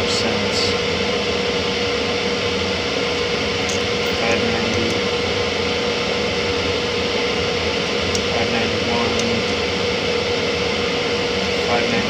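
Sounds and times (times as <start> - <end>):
constant mid-pitched tone: 0.0 - 12.0
steady machine hum: 0.0 - 12.0.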